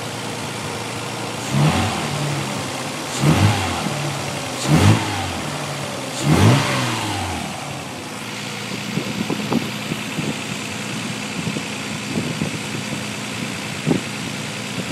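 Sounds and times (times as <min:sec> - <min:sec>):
car engine revving and idling: 0:00.0 - 0:14.9.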